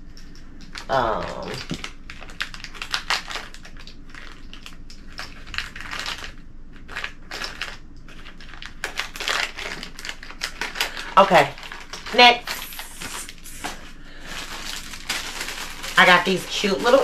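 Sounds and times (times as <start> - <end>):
plastic bag crinkling: 0.4 - 17.0.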